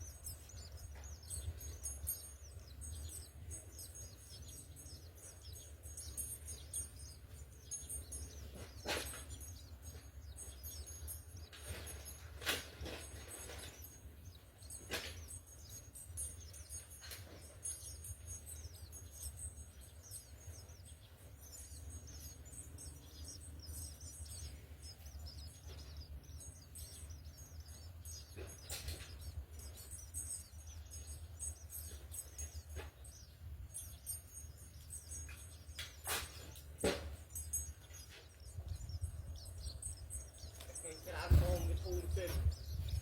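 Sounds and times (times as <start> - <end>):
sparrows chirping: 0.0 - 43.0.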